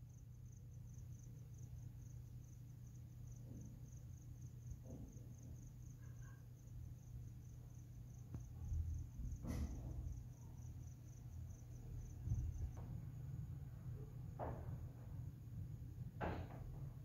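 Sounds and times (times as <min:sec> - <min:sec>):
insect chirping trill: 0:00.0 - 0:14.2
low steady hum: 0:00.0 - 0:17.0.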